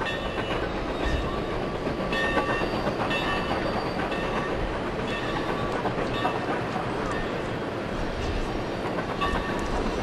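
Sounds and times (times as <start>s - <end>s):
train rumbling and rattling: 0.0s - 10.0s.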